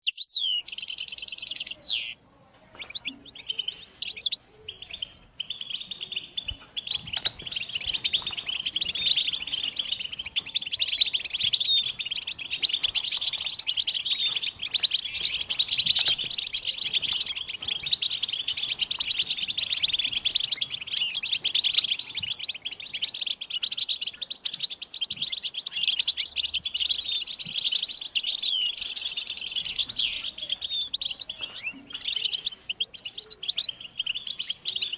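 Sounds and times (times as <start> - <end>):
buzzy bird trill: 2.8 - 34.9.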